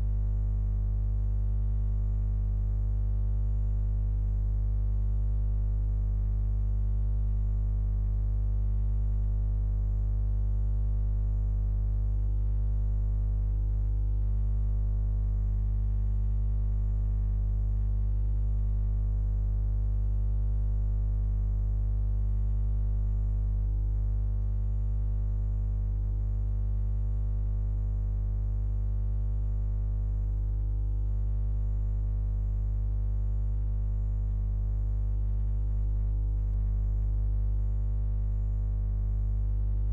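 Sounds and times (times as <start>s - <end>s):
low buzzing hum: 0.0s - 39.9s.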